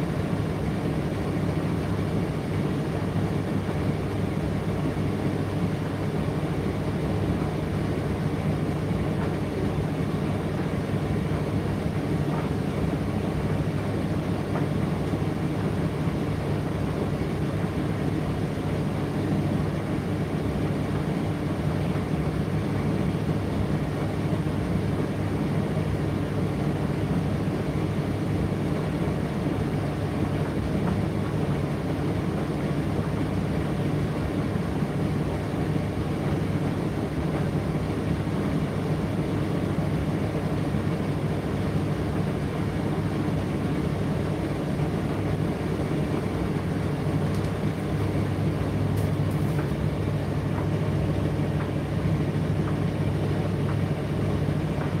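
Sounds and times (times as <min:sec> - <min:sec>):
tumble dryer humming: 0:00.0 - 0:55.0.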